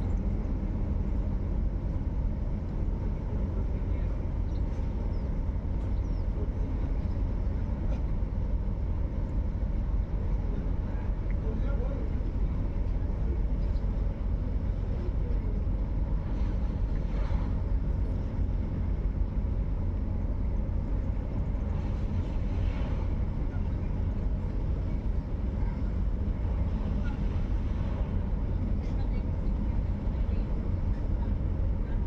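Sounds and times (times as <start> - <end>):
low rumble: 0.0 - 32.0.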